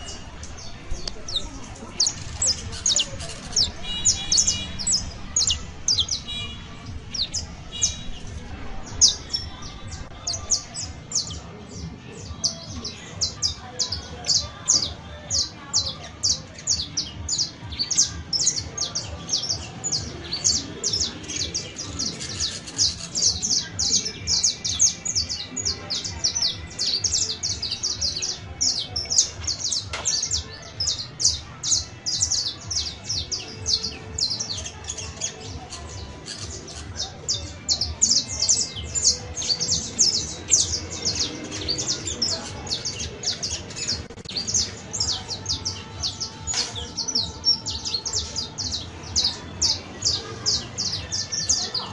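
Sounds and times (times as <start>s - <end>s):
finch singing high chirps: 0.0s - 51.9s.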